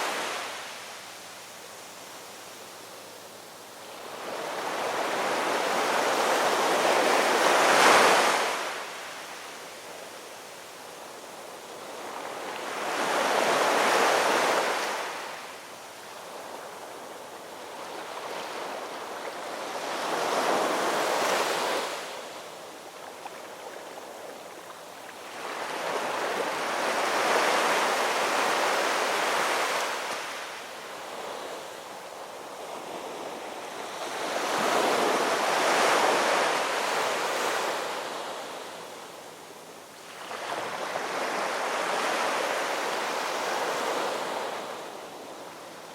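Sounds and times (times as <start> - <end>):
gentle ocean waves: 0.0 - 45.9.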